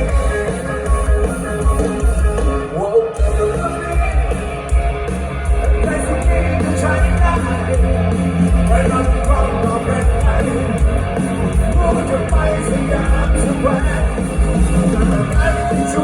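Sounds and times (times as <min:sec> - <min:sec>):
drums heavy beat: 0:00.0 - 0:16.0
rock band playing loudly: 0:00.0 - 0:16.0.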